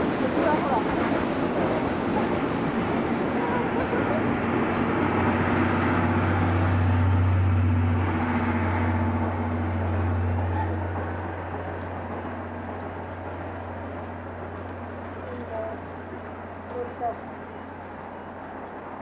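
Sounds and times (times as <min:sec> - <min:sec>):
train rumbling past on rails: 0:00.0 - 0:19.0.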